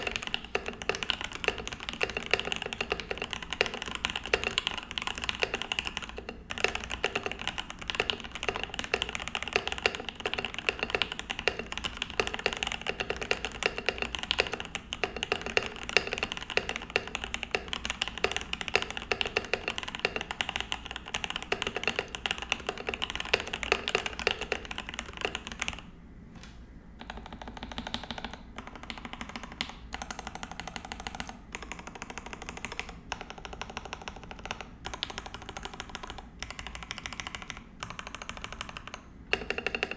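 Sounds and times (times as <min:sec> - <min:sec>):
mechanical keyboard typing: 0:00.0 - 0:25.9, 0:27.0 - 0:39.9.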